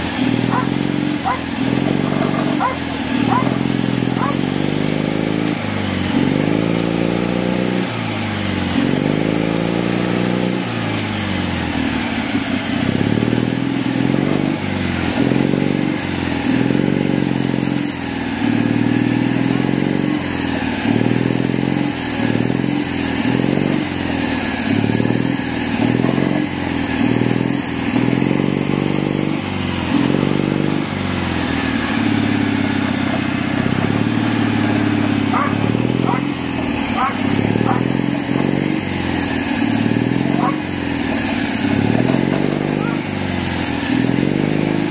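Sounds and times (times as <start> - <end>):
small petrol engine revving: 0.0 - 44.9.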